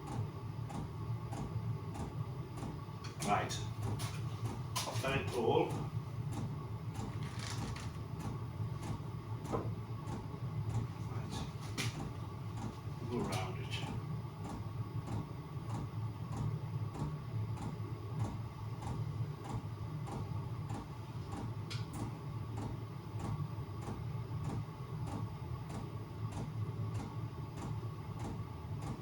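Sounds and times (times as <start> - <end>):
heater fan humming: 0.0 - 29.0.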